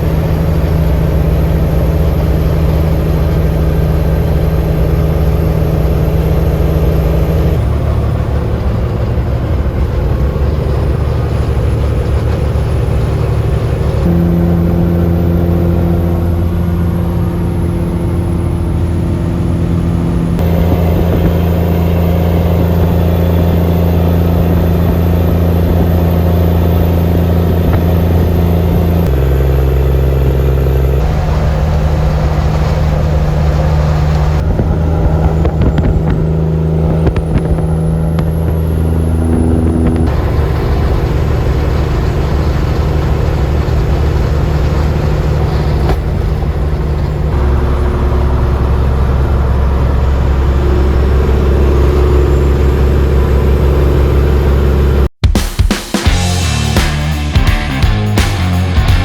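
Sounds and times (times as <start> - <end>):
truck diesel engine droning: 0.0 - 55.1, 56.1 - 59.0.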